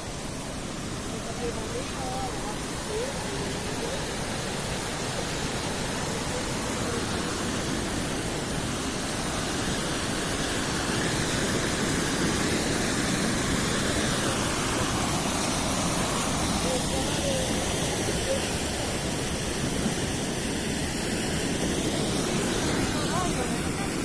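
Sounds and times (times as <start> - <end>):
waterfall rushing and splashing: 0.0 - 24.0.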